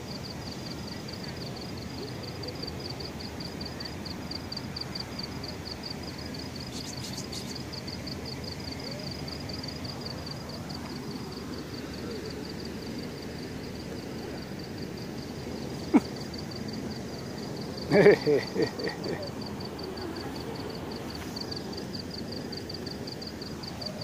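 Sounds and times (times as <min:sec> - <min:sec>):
insect chirping: 0:00.0 - 0:24.0.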